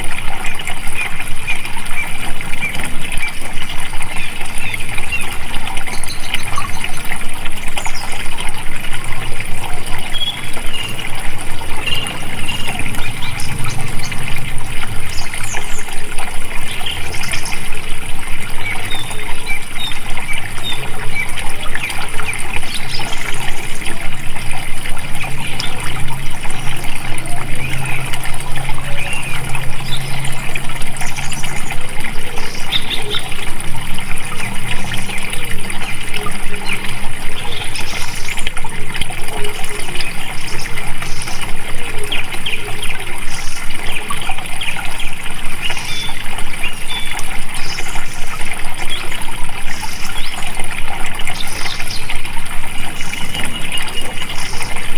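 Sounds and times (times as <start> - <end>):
stream running and splashing: 0.0 - 54.9.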